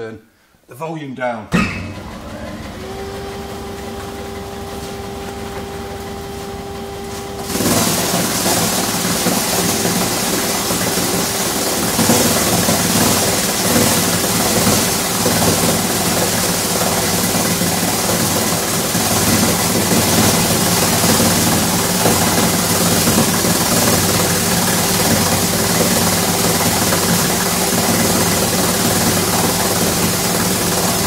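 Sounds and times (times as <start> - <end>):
granulator motor hum and whine: 1.7 - 31.0.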